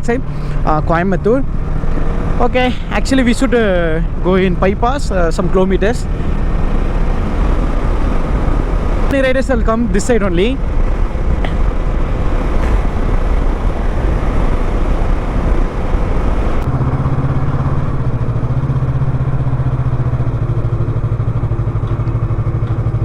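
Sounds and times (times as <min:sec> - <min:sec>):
wind rush: 0:00.0 - 0:21.1
motorcycle engine: 0:00.0 - 0:23.0
motorcycle idling: 0:00.0 - 0:23.0.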